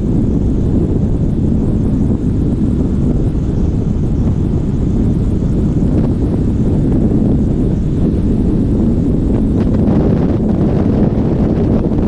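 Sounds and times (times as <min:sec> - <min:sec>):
motorcycle engine cruising: 0:00.0 - 0:12.0
wind rumble on microphone: 0:00.0 - 0:12.0.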